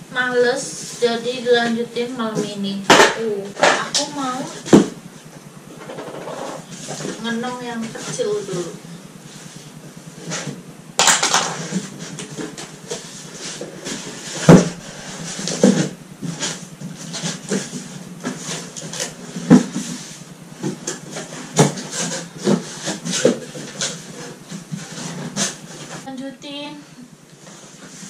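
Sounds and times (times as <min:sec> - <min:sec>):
cardboard scraping and rustling: 0:02.4 - 0:10.6, 0:11.2 - 0:26.1.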